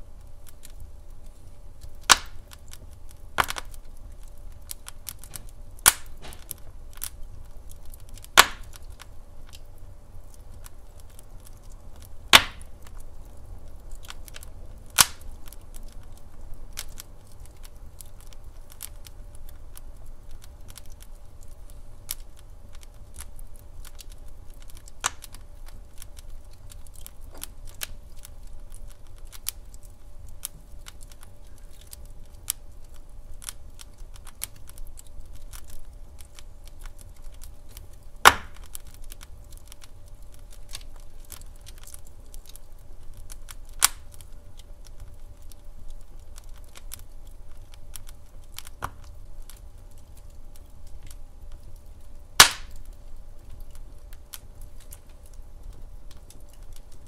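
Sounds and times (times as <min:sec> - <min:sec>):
low rumble of burning logs: 0:00.0 - 0:57.0
wood fire crackling and popping: 0:00.0 - 0:57.0.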